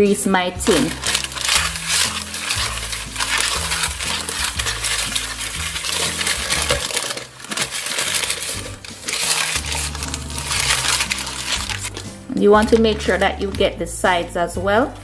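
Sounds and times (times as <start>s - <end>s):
metal tin rasping and rattling: 0.6s - 12.9s
paper scraping inside metal tin: 0.6s - 13.2s.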